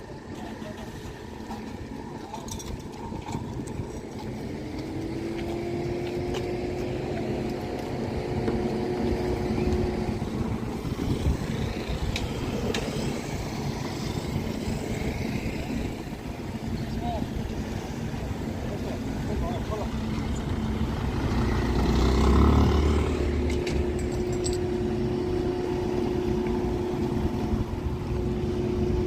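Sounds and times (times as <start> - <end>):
engine rumbling: 0.0 - 29.0.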